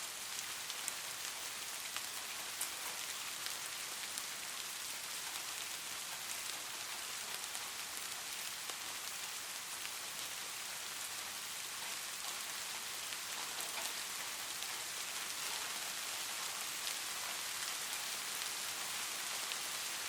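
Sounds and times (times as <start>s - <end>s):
light rain hissing: 0.0s - 20.0s.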